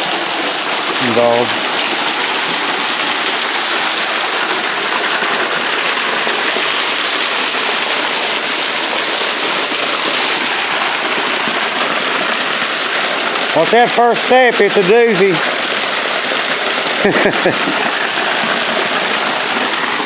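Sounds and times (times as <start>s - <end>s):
waterfall splashing on rocks: 0.0s - 20.0s.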